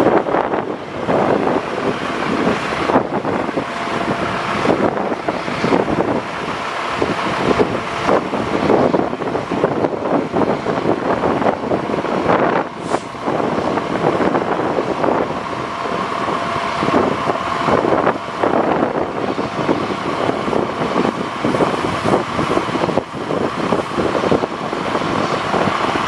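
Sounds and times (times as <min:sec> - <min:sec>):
diesel engine running: 0:00.0 - 0:26.0
wind buffeting microphone: 0:00.0 - 0:26.0.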